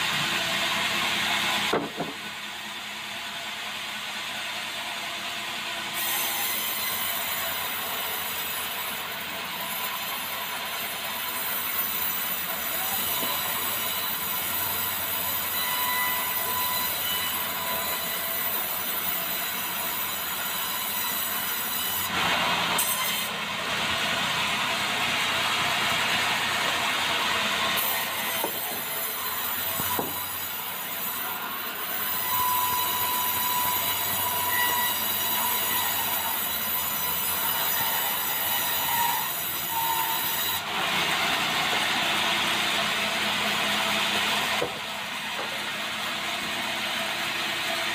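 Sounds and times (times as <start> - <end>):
sawmill saw cutting wood: 0.0 - 47.9.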